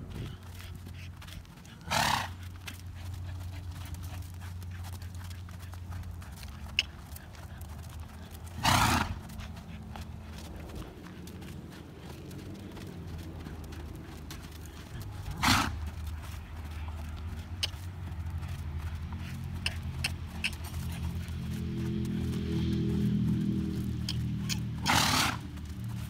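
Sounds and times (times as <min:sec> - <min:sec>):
horse snorting: 0:00.0 - 0:12.6, 0:13.2 - 0:16.2, 0:17.4 - 0:26.0
hoofbeats on sand: 0:00.0 - 0:26.0.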